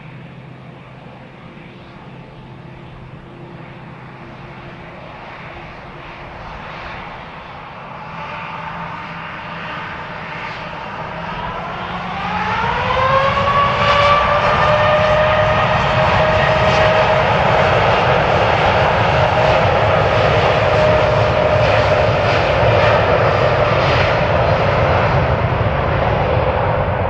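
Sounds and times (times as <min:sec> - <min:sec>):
jet engine whine: 0:00.0 - 0:27.0
jet engines roaring: 0:00.0 - 0:27.0.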